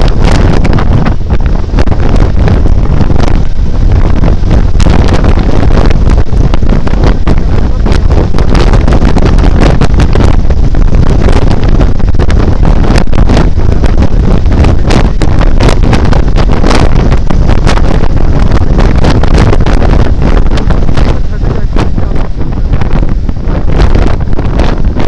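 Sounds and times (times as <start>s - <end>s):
motorcycle noise: 0.0s - 25.0s
wind buffeting microphone: 0.0s - 25.0s.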